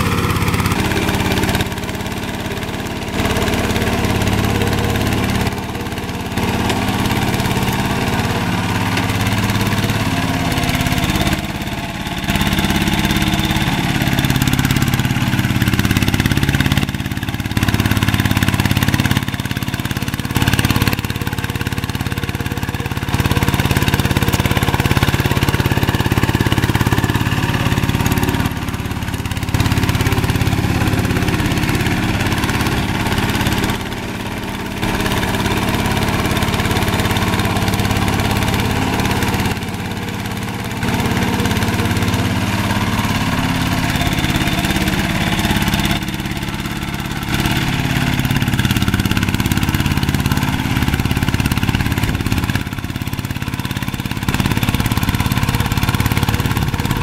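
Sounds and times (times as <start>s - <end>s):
diesel engine running: 0.0s - 57.0s
wheels churning through water: 0.0s - 57.0s.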